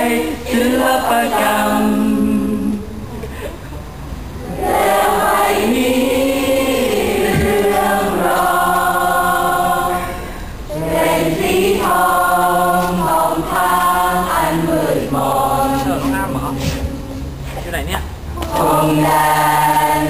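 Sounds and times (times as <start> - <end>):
voices singing a slow song: 0.0 - 3.4, 4.2 - 17.5, 18.3 - 20.0.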